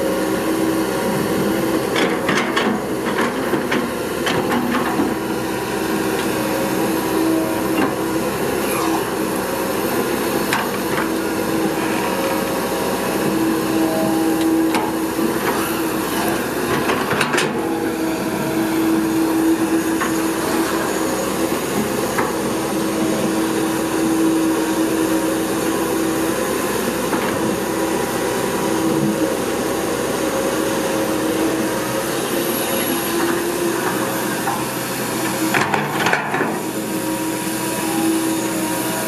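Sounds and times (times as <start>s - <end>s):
excavator engine and hydraulic drone: 0.0s - 39.0s
hydraulic whine: 0.0s - 39.0s.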